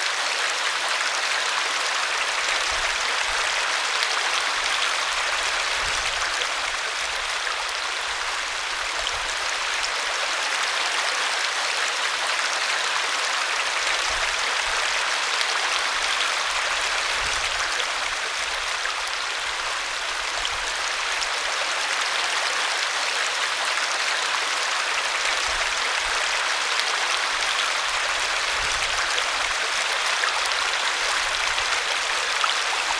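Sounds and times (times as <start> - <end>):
stream running over rocks: 0.0 - 32.9.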